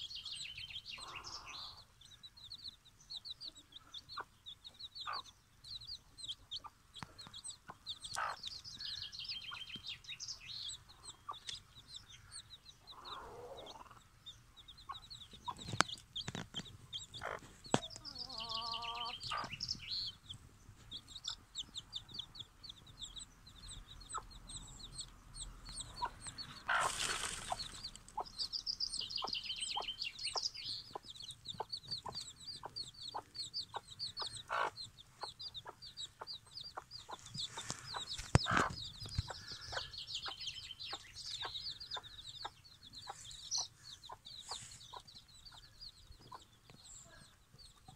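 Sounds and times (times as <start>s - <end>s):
hen clucking: 0.0s - 2.0s, 3.1s - 47.9s
chicks peeping: 0.0s - 47.9s.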